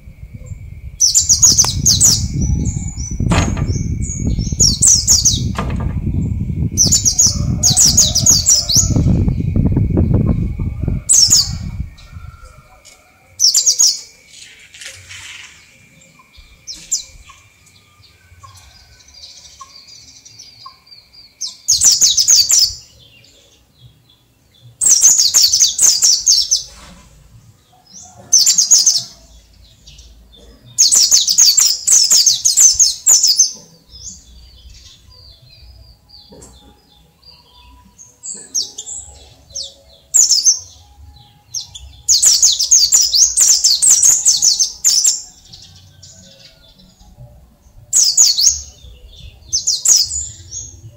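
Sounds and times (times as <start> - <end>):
bird high twittering song: 0.0 - 12.8, 13.4 - 50.9.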